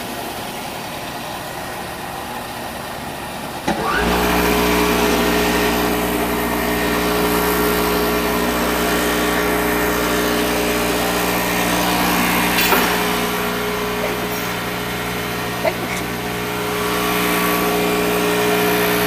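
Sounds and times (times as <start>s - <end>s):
food processor motor whirring: 3.7s - 19.0s.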